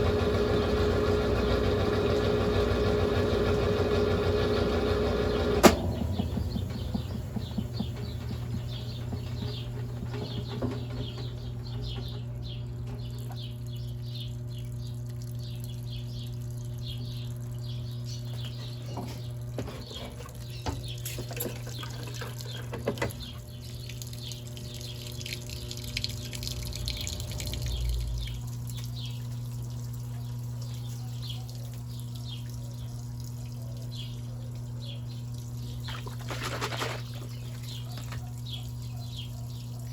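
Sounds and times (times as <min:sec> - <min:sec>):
water rushing into washing machine: 0:00.0 - 0:13.6, 0:18.9 - 0:38.9
low machine hum: 0:00.0 - 0:39.9.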